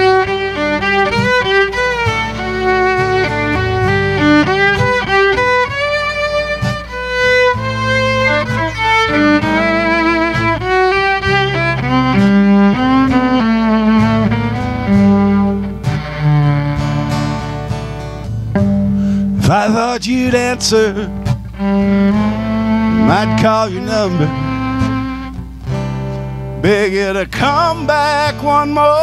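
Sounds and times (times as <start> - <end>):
sustained accompaniment notes: 0.0 - 26.6
fiddle playing: 0.0 - 29.0.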